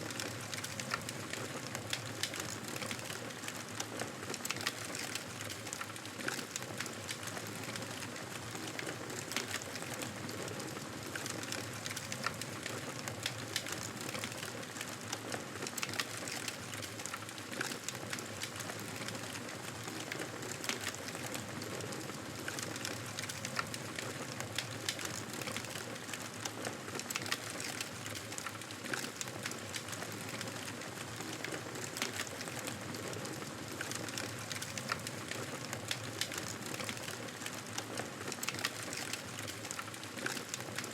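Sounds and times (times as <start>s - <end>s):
campfire crackling and popping: 0.1s - 40.9s.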